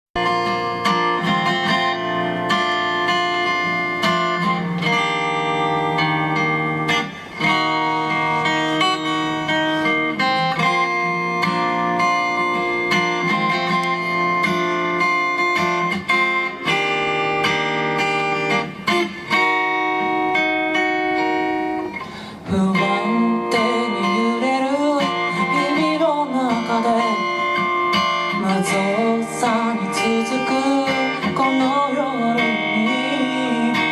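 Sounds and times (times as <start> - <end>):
plucked guitar chords: 0.2 - 33.9
sliding guitar melody: 0.2 - 33.9.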